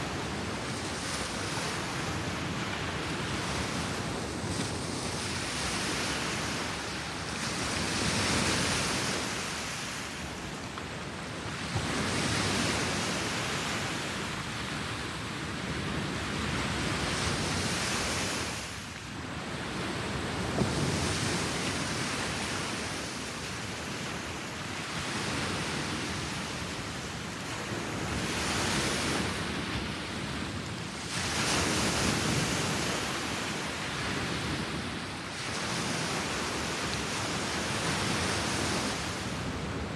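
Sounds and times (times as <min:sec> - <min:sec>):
waves washing on pebble beach: 0:00.0 - 0:39.9.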